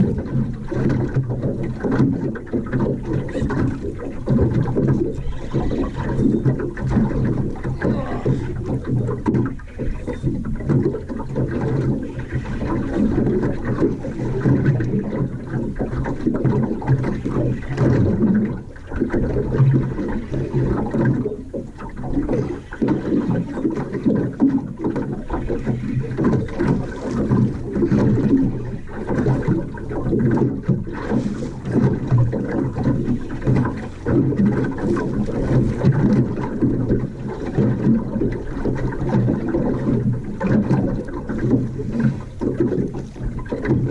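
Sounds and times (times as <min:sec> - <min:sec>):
outboard motor droning: 0:00.0 - 0:43.9
water rushing past hull: 0:00.0 - 0:43.9.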